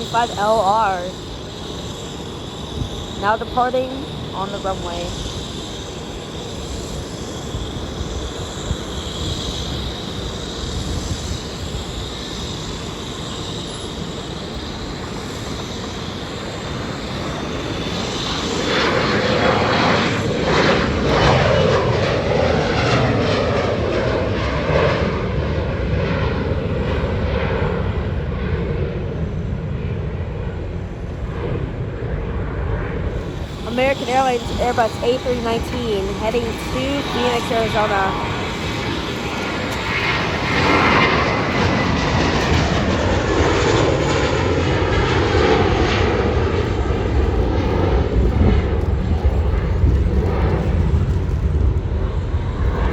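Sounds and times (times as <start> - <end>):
jet engines roaring with high whine: 0.0 - 52.9.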